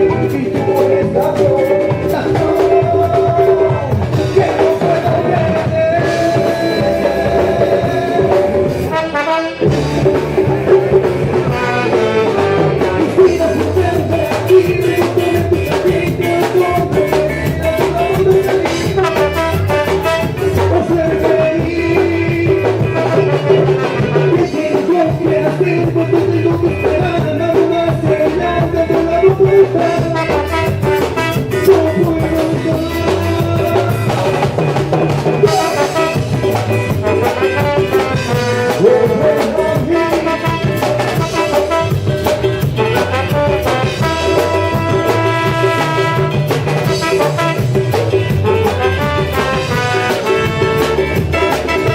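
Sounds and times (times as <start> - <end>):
band music with drums: 0.0 - 51.9.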